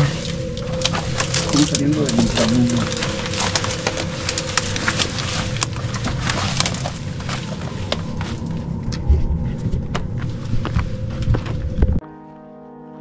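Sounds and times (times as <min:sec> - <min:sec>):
footsteps scrambling over rock: 0:00.0 - 0:12.0.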